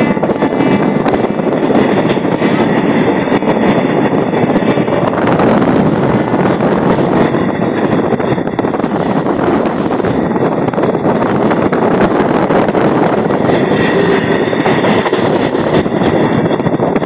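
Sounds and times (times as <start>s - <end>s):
train wheel and track noise: 0.0s - 17.0s
wind rushing over microphone: 0.0s - 17.0s.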